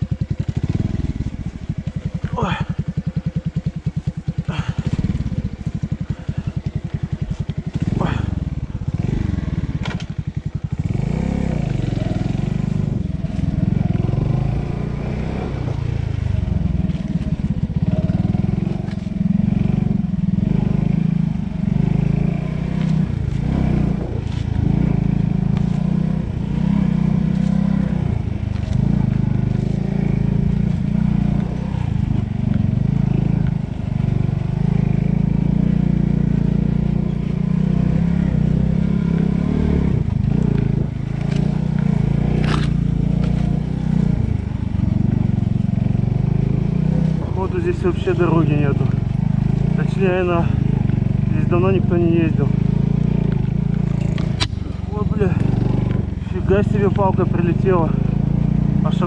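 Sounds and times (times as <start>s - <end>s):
pit bike engine revving: 0.0s - 59.0s.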